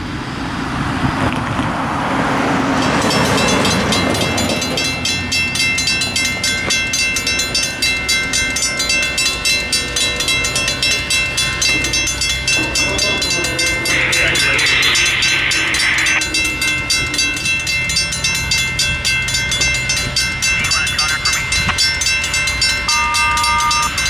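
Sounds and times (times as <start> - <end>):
train rumble: 0.0 - 24.0
bell ringing steadily: 2.8 - 24.0.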